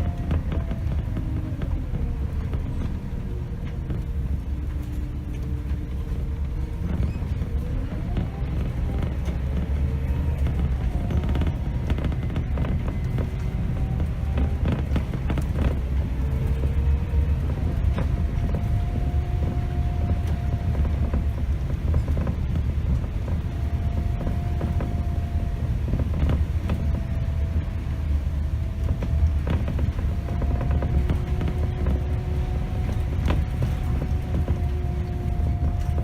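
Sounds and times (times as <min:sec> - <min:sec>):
bodywork rattles and creaks: 0:00.0 - 0:36.0
bus diesel engine rumble: 0:00.0 - 0:36.0
engine whine: 0:00.0 - 0:36.0.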